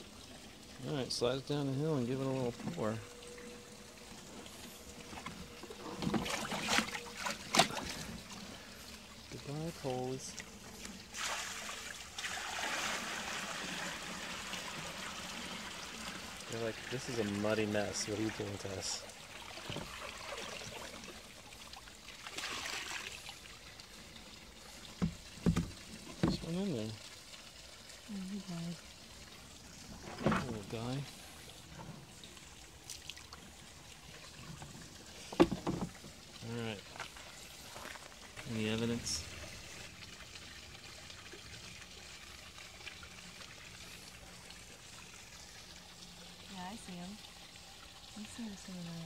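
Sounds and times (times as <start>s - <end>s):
water pouring into a pond: 0.0s - 49.0s
water splashing: 0.0s - 49.0s.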